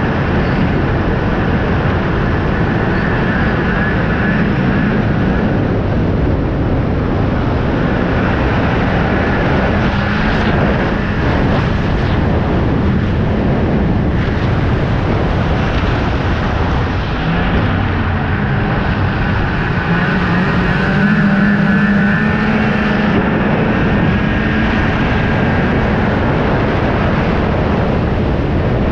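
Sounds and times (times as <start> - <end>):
snowmobile engine running: 0.0 - 28.9.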